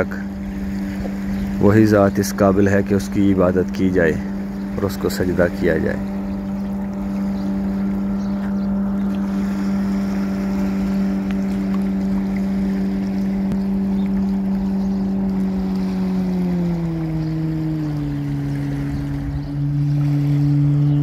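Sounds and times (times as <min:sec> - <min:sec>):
speedboat engine humming: 0:00.0 - 0:21.0.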